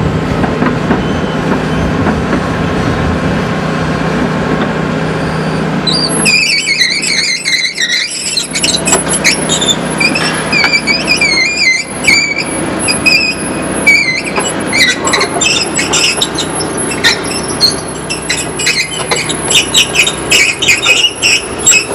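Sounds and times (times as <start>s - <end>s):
diesel engine running: 0.0s - 21.9s
crawler tracks squealing: 0.6s - 2.9s, 4.2s - 21.9s.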